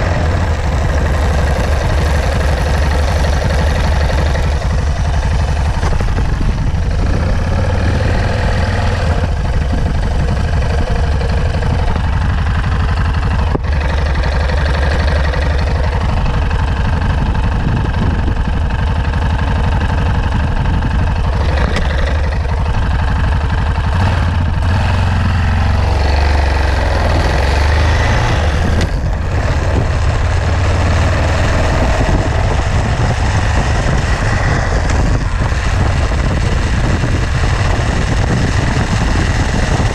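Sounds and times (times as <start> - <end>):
wind buffeting microphone: 0.0 - 26.0, 27.0 - 39.9
motorcycle engine running: 0.0 - 39.9.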